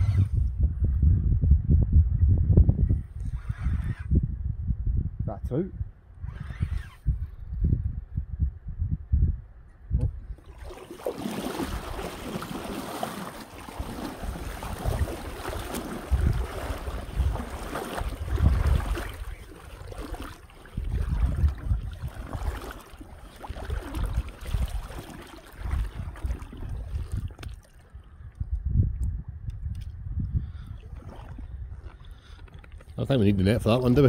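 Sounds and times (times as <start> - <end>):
rushing wind and water: 0.0 - 5.2, 9.9 - 34.0
wind buffeting microphone: 0.0 - 34.0.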